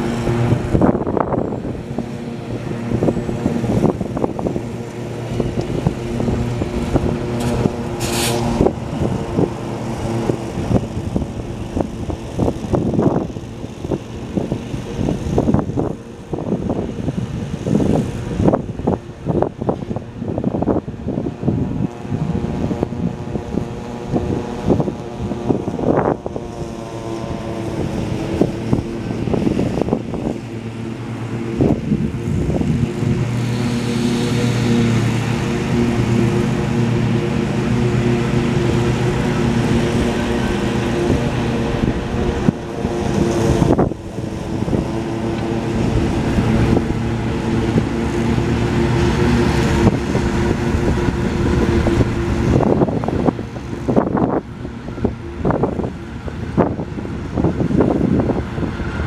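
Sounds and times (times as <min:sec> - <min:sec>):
locomotive diesel engine drone: 0:00.0 - 0:59.0
wind buffeting microphone: 0:00.0 - 0:59.0.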